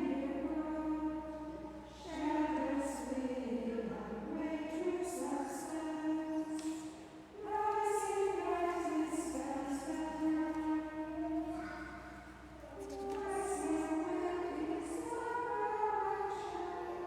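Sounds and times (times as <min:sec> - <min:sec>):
choir of nuns chanting: 0:00.0 - 0:17.0.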